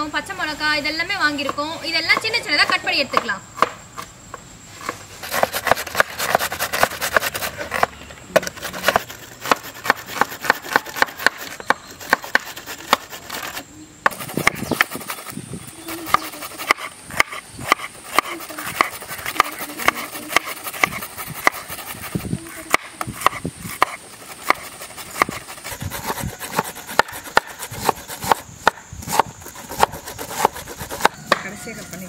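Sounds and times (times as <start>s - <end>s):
knife chopping on wooden board: 1.4s - 3.8s, 4.8s - 15.3s, 16.1s - 31.5s.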